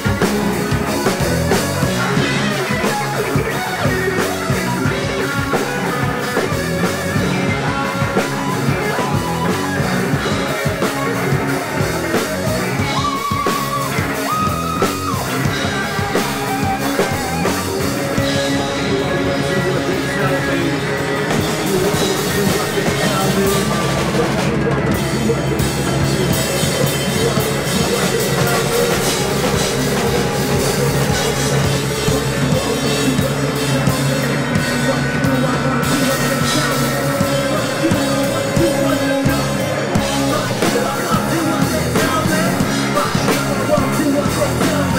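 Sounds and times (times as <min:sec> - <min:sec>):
bass guitar: 0:00.0 - 0:44.9
distorted electric guitars: 0:00.0 - 0:44.9
drum kit: 0:00.0 - 0:44.9.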